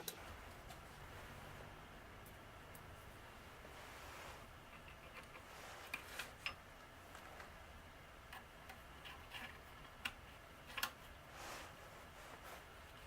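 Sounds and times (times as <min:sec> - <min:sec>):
low steady hiss: 0:00.0 - 0:13.0.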